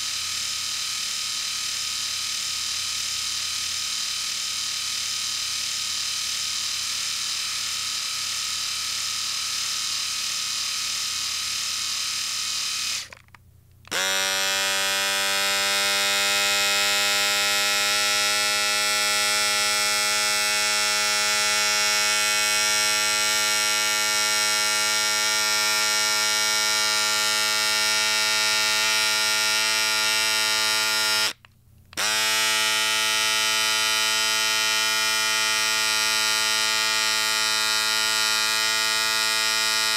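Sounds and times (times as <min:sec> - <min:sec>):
electric shaver buzz with low hum: 0:00.0 - 0:13.2, 0:13.9 - 0:31.4, 0:32.0 - 0:39.9
electric shaver high hissy buzz: 0:00.0 - 0:13.2, 0:13.9 - 0:31.4, 0:32.0 - 0:39.9.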